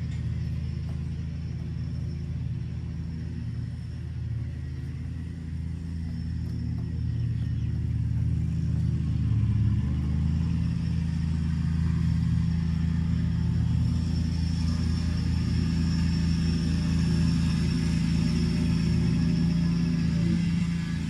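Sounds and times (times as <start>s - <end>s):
lawnmower engine running: 0.0s - 21.0s.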